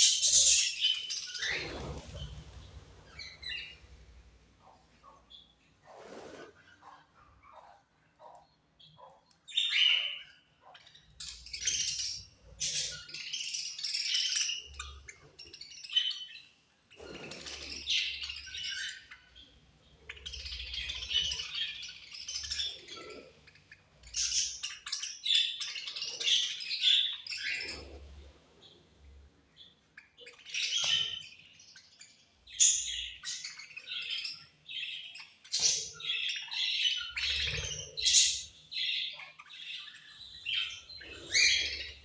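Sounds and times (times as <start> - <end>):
budgerigars chirping: 0.0 - 3.9, 6.6 - 28.0, 29.6 - 42.0.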